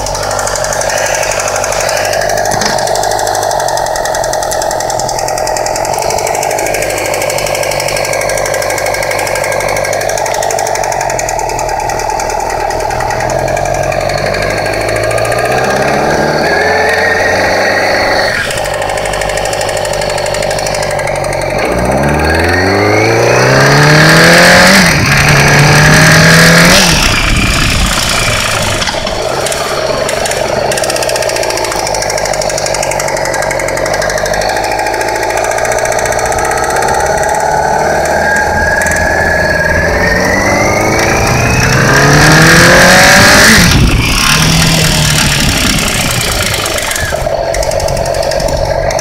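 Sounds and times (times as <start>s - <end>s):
engine ticking noise: 0.0s - 49.0s
motorcycle engine revving: 0.0s - 49.0s.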